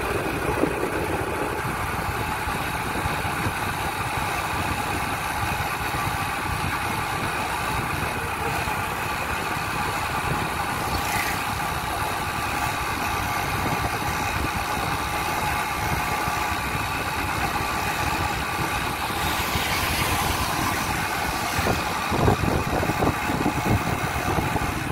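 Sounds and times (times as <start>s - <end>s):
road and wind noise: 0.0s - 24.9s
vehicle engine cruising: 0.0s - 24.9s.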